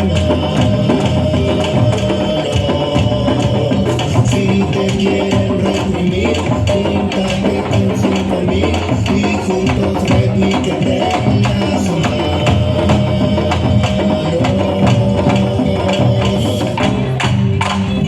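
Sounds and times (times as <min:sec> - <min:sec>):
drum ensemble playing: 0:00.0 - 0:18.0.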